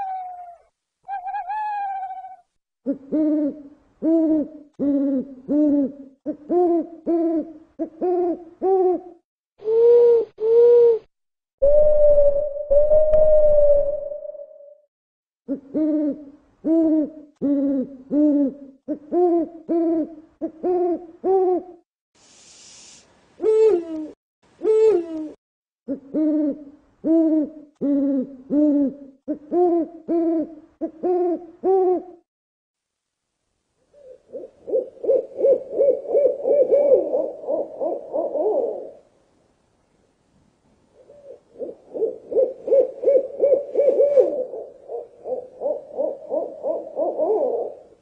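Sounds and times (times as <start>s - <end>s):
owl hooting: 0.0s - 14.8s, 15.5s - 21.8s, 23.4s - 32.2s, 33.9s - 39.0s, 41.0s - 48.0s.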